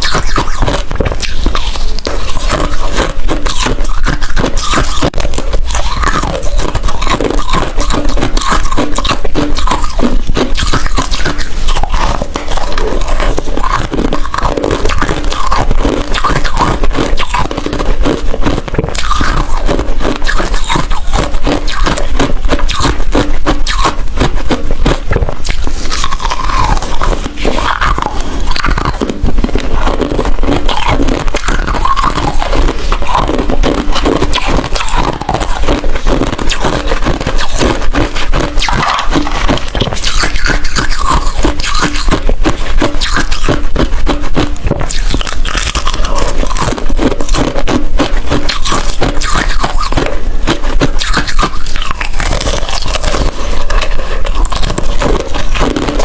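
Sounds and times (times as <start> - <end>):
ice being crunched and chewed: 0.0 - 56.0.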